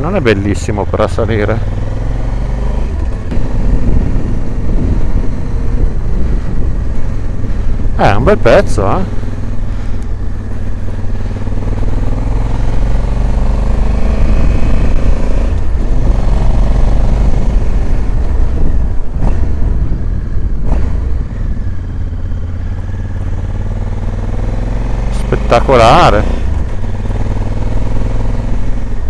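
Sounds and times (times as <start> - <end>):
motorcycle engine climbing: 0.0 - 29.0.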